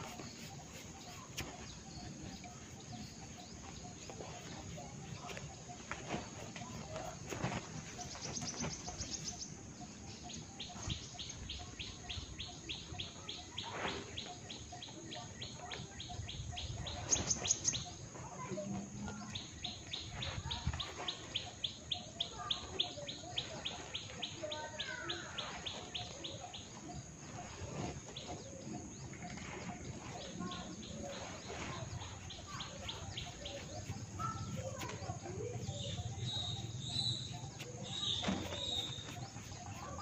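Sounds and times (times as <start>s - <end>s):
birds chirping: 0.0s - 13.7s, 14.4s - 40.0s.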